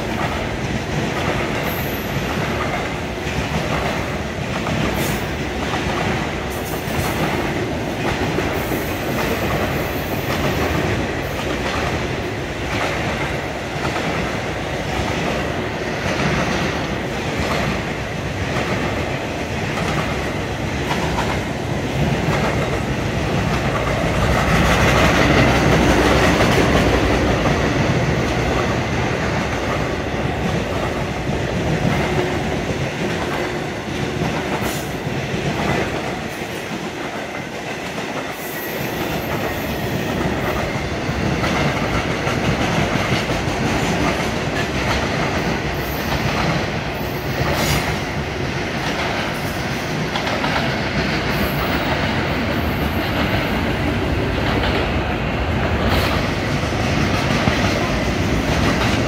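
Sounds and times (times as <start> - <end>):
clickety-clack over rail joints: 0.0 - 59.0
steel wheels rumbling on rail: 0.0 - 59.0.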